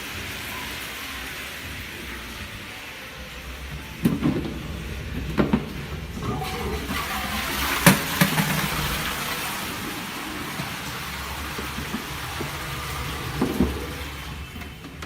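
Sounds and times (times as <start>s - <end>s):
cistern hissing: 0.0s - 15.0s
toilet flush clunks: 0.0s - 15.0s
water rushing through toilet bowl: 0.0s - 15.0s.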